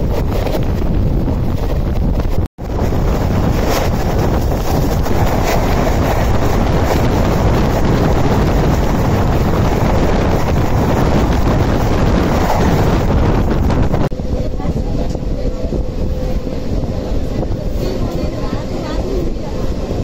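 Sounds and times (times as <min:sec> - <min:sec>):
moving train rumble: 0:00.0 - 0:20.0
wind buffeting microphone: 0:00.0 - 0:20.0.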